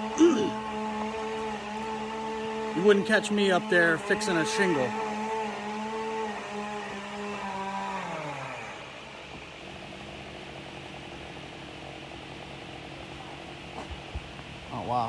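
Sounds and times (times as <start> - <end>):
power saw running: 0.0 - 12.1.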